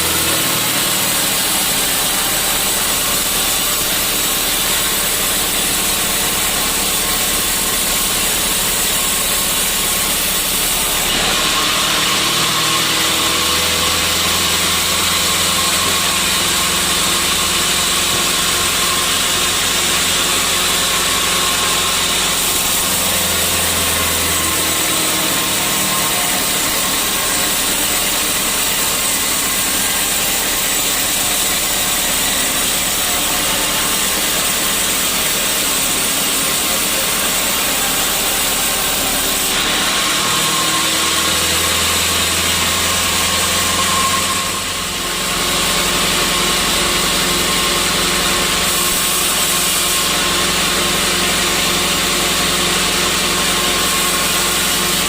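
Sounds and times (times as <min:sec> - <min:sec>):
sawmill saw cutting wood: 0:00.0 - 0:55.0.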